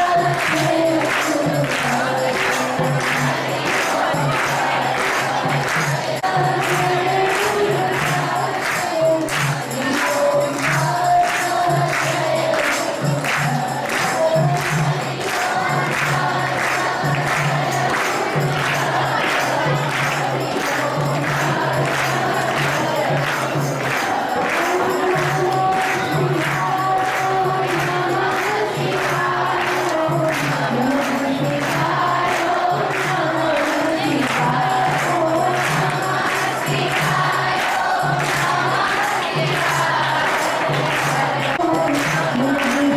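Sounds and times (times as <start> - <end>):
group singing devotional song: 0.0 - 42.9
jingling hand percussion: 0.0 - 42.9.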